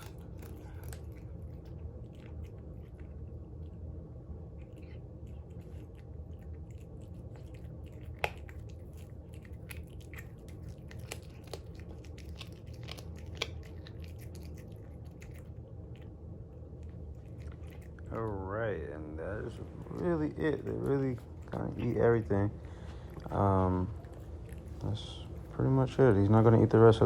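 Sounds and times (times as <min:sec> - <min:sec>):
cat chewing and crunching: 0:00.0 - 0:27.0
low steady hum: 0:00.0 - 0:27.0.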